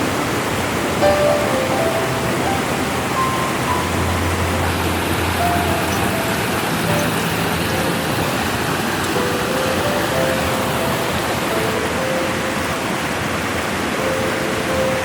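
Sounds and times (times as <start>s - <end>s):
steady rushing noise: 0.0s - 15.0s
soft background music: 0.9s - 15.0s.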